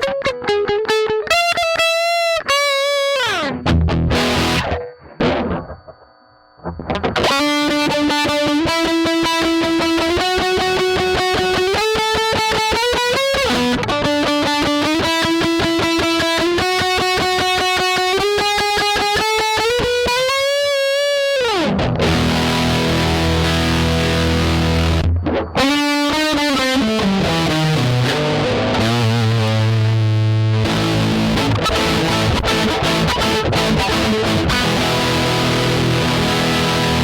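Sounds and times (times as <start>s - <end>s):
distorted electric guitar: 0.0s - 37.0s.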